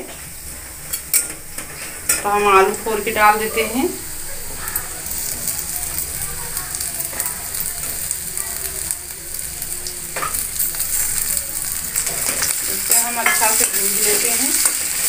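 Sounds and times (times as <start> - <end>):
hot oil sizzling and crackling: 0.0 - 15.0.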